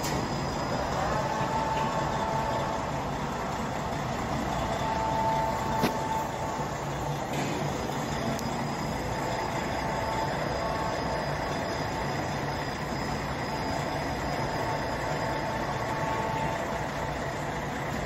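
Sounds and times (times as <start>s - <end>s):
crane hoist winding: 0.0s - 18.0s.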